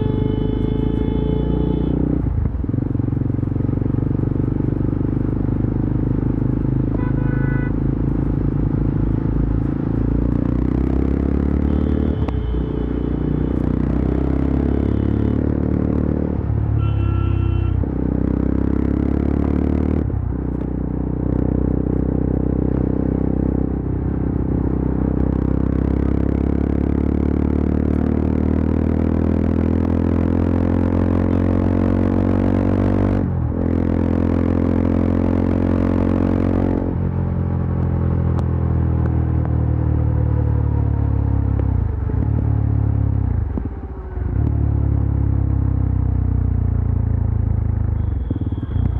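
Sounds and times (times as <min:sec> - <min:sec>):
motorcycle engine at speed: 0:00.0 - 0:48.9.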